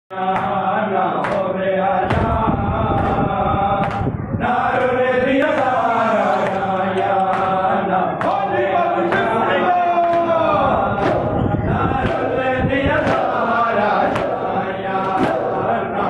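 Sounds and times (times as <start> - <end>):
men chanting together: 0.1 - 16.0
rhythmic chest slaps: 0.1 - 16.0.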